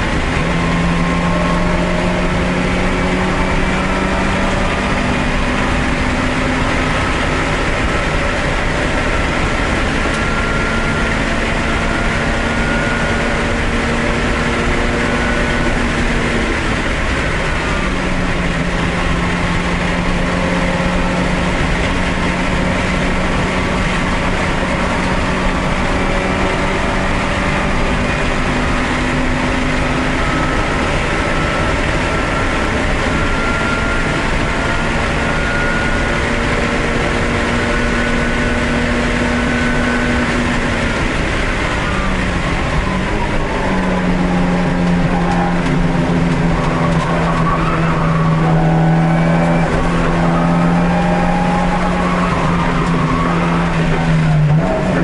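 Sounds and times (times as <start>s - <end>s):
race car engine from inside: 0.0s - 55.0s.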